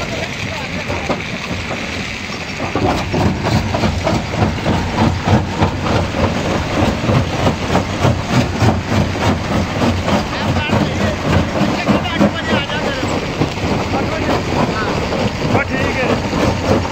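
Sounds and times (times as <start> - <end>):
crusher machine hum: 0.0 - 16.9.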